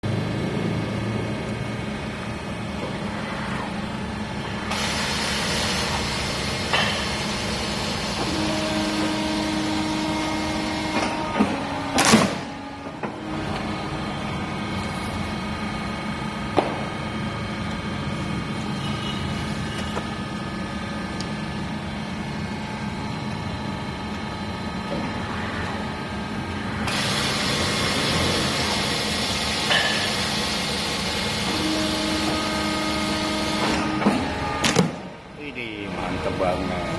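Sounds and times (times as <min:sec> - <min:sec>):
paper guillotine machine hum: 0:00.0 - 0:36.9.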